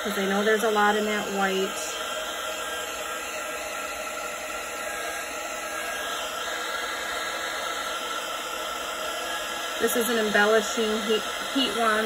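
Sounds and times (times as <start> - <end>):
heat gun blowing hiss: 0.0 - 12.0.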